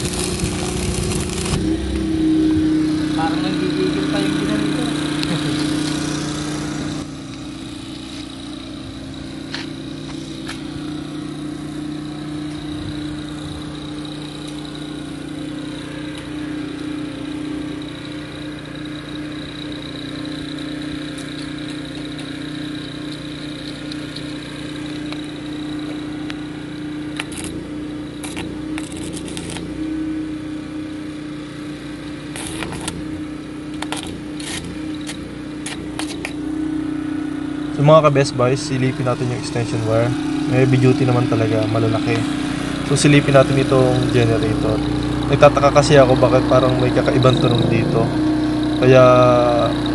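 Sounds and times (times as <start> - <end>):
generator engine running: 0.0 - 49.9.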